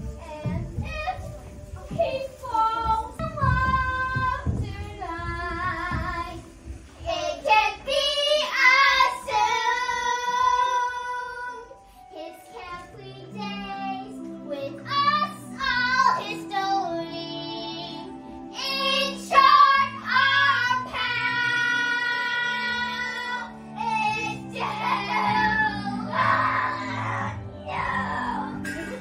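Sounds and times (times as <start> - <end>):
child singing: 0.0 - 29.0.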